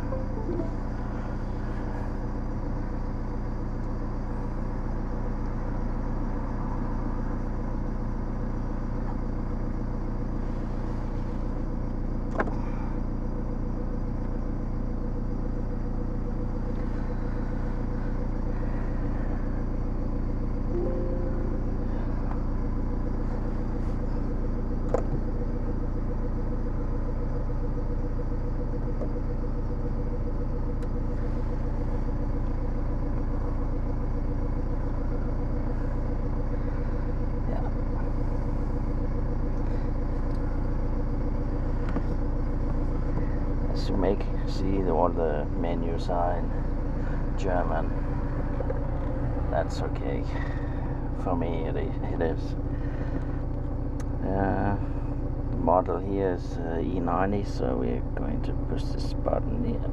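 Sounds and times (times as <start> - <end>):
low mechanical hum in car: 0.0 - 59.9.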